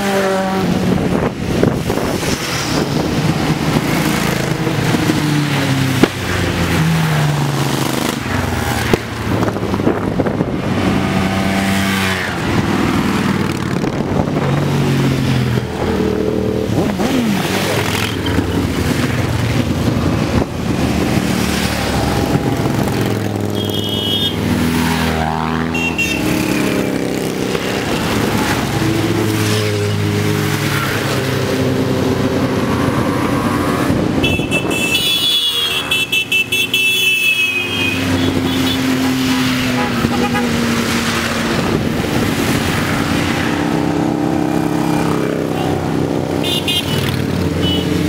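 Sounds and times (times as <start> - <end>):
motorcycles riding past: 0.0 - 34.8, 37.6 - 48.0.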